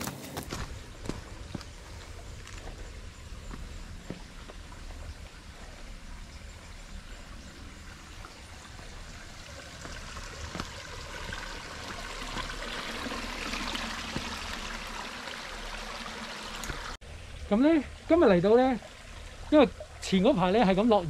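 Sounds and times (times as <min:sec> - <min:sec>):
stream rushing water: 0:00.0 - 0:21.0.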